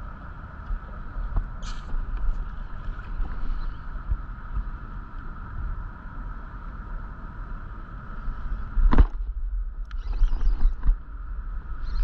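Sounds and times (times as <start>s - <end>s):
wind buffeting microphone: 0.0s - 6.0s, 7.6s - 12.0s
steady hum: 0.0s - 12.0s.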